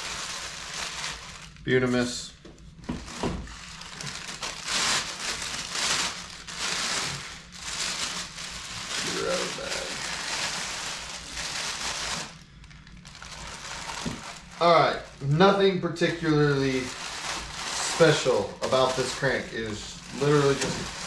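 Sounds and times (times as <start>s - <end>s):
packaging wrap crinkling: 0.0s - 21.0s.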